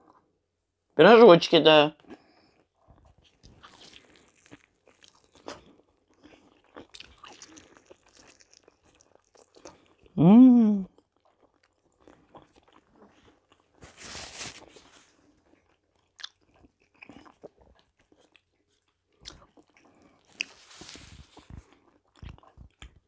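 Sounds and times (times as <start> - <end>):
close chewing with mouth smacks: 2.0 - 10.2, 10.9 - 23.0.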